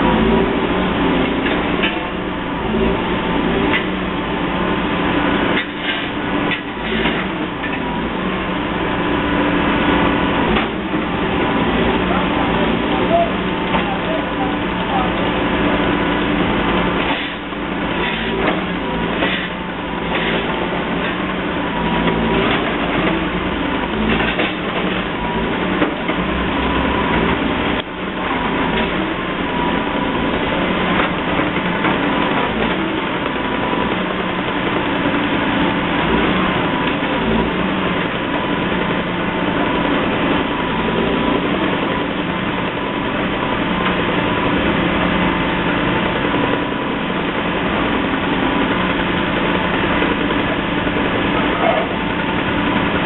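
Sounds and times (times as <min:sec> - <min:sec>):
heavy machinery engine running: 0:00.0 - 0:53.0.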